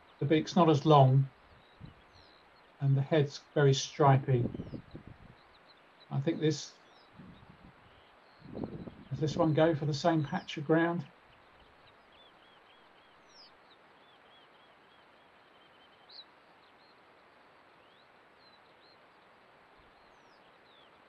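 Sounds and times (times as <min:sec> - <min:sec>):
distant birds chirping: 0:00.0 - 0:21.0
low hiss: 0:00.0 - 0:21.0.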